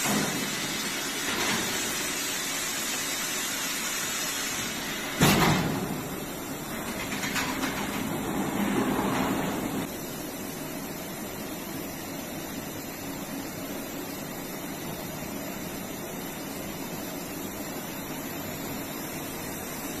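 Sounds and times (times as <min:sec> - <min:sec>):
machinery hum and hiss: 0:00.0 - 0:20.0.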